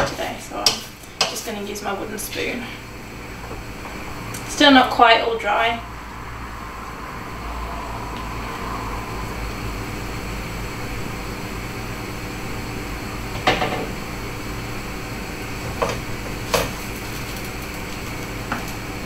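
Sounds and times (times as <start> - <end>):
steady hiss and hum: 0.0 - 19.0.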